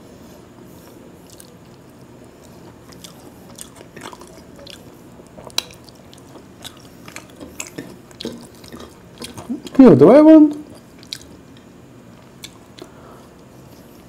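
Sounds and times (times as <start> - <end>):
person chewing food: 0.8 - 9.8, 10.5 - 14.0.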